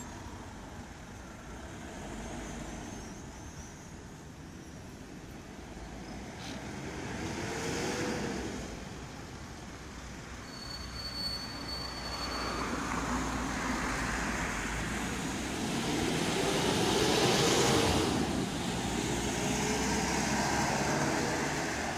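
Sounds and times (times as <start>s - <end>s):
traffic passing: 0.0s - 21.9s.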